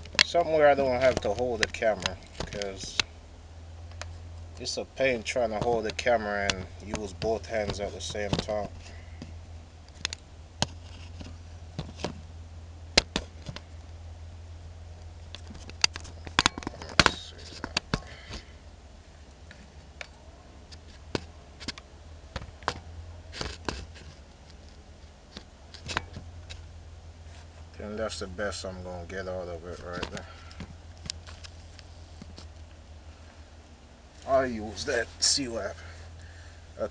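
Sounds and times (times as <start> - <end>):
low hum: 0.0 - 36.9.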